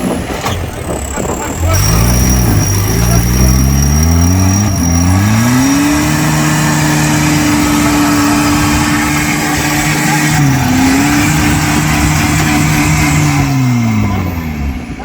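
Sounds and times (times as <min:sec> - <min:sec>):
engine revving at high revs: 0:00.9 - 0:15.0.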